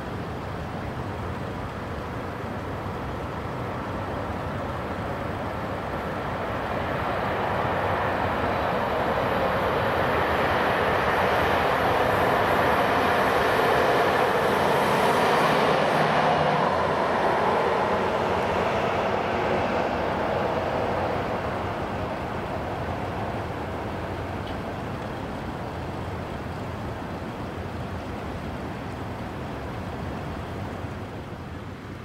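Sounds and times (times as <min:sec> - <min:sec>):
train passing: 0:00.0 - 0:32.0.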